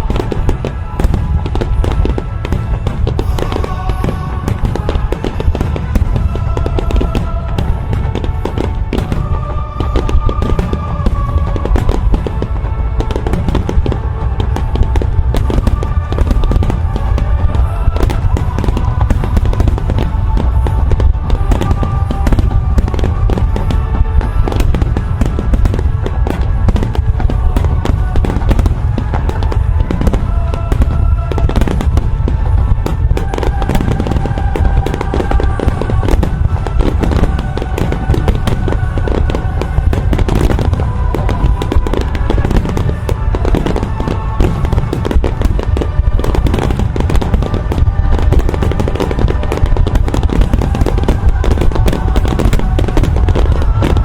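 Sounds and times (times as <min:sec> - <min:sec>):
fireworks bursts and booms: 0:00.0 - 0:54.0
music with sustained tones: 0:00.0 - 0:54.0.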